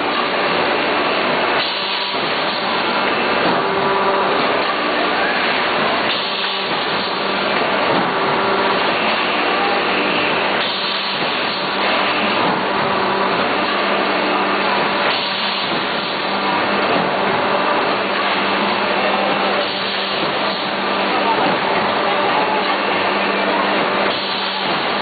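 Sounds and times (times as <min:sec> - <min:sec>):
machinery hiss and hum: 0:00.0 - 0:25.0.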